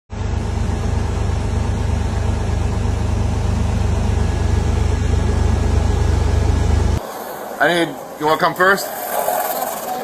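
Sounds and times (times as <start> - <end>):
truck engine idling: 0.1 - 8.6.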